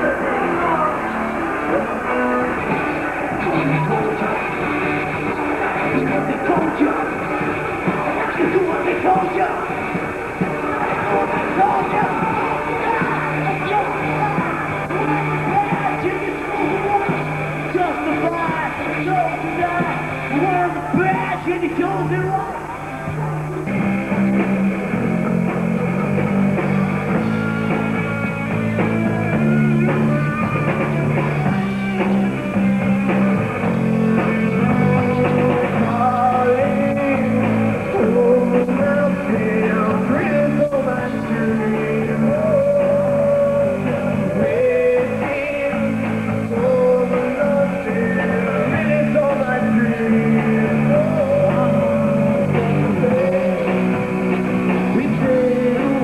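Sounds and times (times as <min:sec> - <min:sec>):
person singing: 0:00.0 - 0:23.4, 0:26.6 - 0:56.0
live rock band playing: 0:00.0 - 0:56.0.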